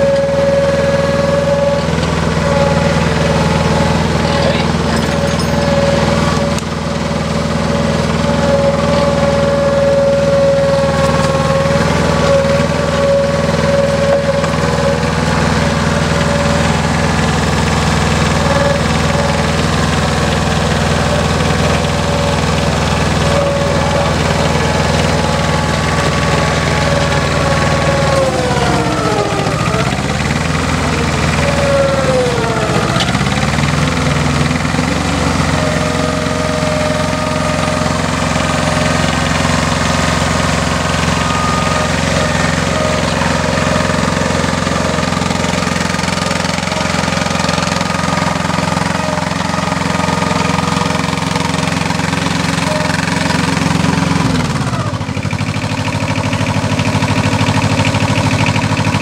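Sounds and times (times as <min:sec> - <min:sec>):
drilling rig engine running: 0:00.0 - 0:59.0.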